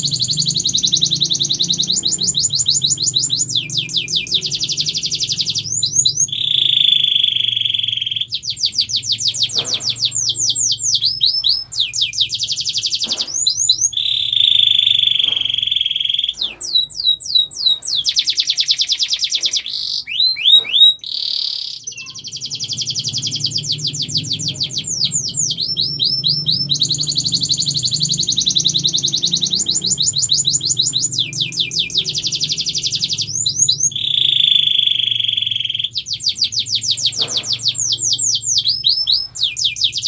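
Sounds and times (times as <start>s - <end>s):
canary singing: 0.0s - 40.0s.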